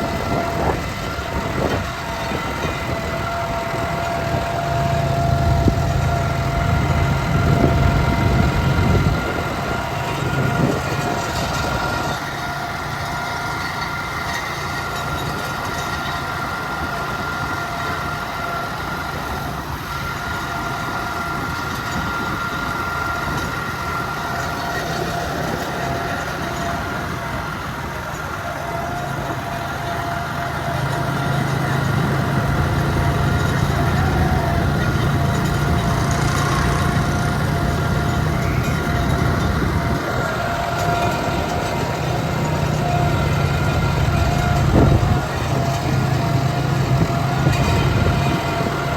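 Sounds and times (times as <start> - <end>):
steady whine: 0.0 - 48.9
tractor diesel engine running: 0.0 - 48.9.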